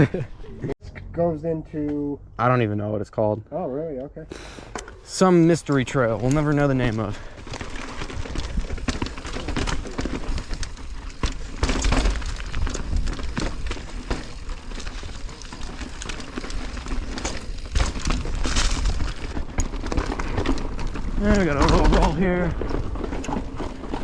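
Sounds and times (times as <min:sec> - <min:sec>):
tyres crunching over rocks: 0:04.3 - 0:24.0
chain and frame rattling: 0:04.8 - 0:24.0.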